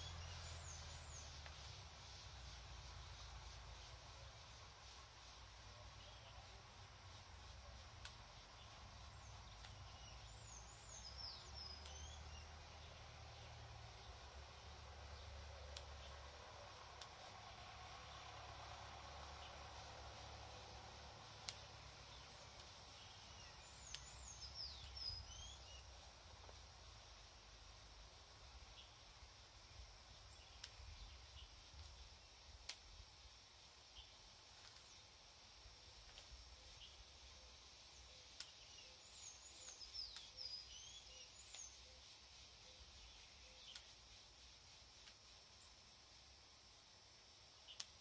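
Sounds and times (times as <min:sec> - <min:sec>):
small bird chirping: 0:00.0 - 0:46.2, 0:47.4 - 0:48.0.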